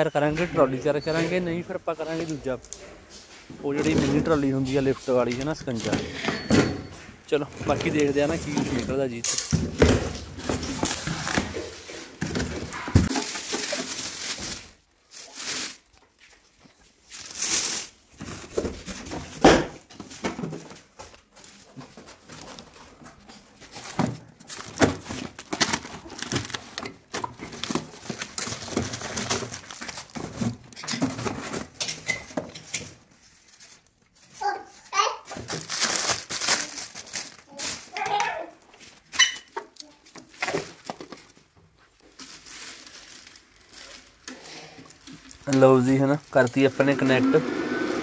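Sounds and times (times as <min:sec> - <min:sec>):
packaging crinkling and rustling: 0:03.7 - 0:06.1, 0:07.3 - 0:34.2, 0:35.3 - 0:47.2.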